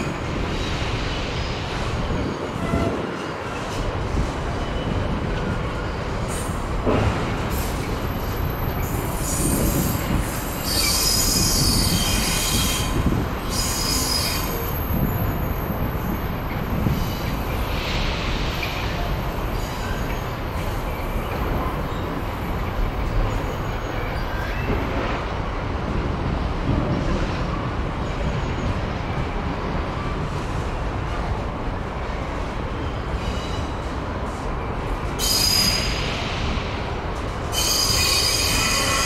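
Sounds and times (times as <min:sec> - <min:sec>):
train wheels squealing on rails: 0:00.0 - 0:25.3, 0:32.0 - 0:39.0
train rumbling: 0:00.0 - 0:39.0.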